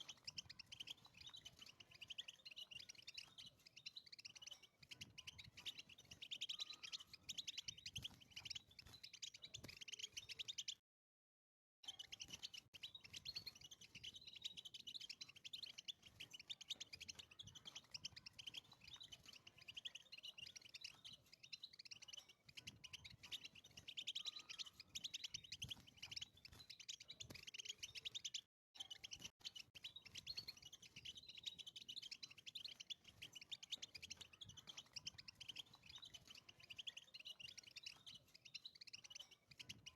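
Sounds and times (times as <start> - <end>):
finch twittering song: 0.0 - 10.8, 11.8 - 39.9.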